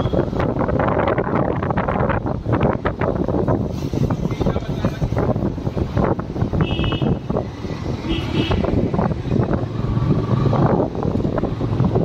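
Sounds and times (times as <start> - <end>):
vehicles passing: 0.0 - 12.0.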